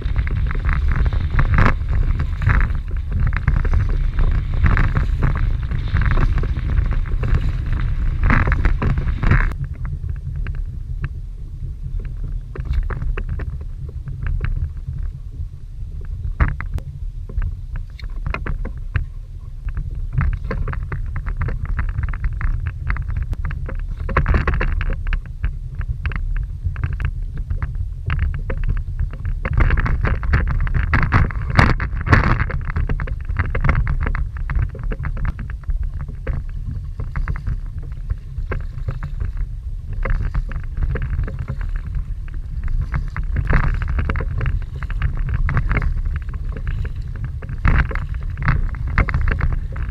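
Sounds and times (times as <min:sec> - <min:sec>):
waves splashing against kayak hull: 0:00.0 - 0:49.9
wind rumble on microphone: 0:00.0 - 0:49.9.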